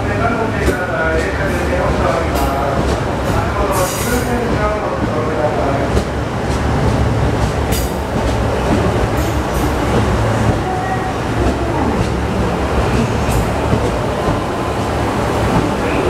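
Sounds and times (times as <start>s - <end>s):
diesel train rumbling: 0.0s - 16.0s.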